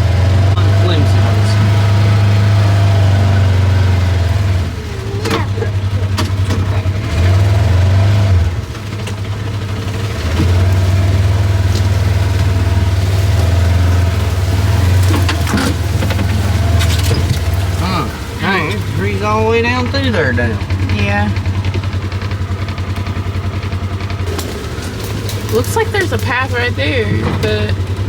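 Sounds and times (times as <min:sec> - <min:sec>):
vehicle engine running: 0:00.0 - 0:28.0
sharp cracks: 0:03.6 - 0:28.0.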